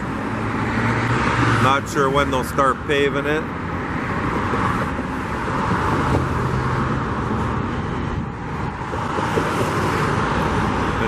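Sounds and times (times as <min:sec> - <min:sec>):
car tyres and engines: 0:00.0 - 0:11.0
low traffic rumble: 0:00.0 - 0:11.0.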